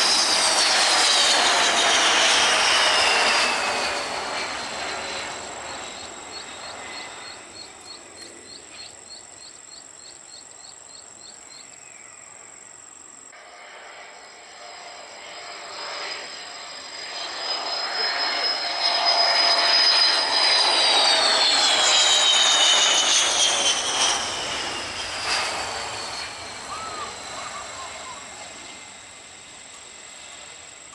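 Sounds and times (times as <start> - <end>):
jet airliner engines: 0.0 - 30.9
jet passing with whine: 0.0 - 30.9.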